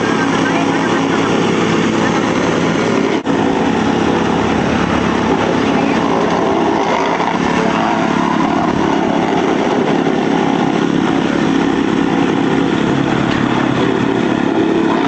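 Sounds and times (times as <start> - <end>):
machinery engine running: 0.0 - 15.0.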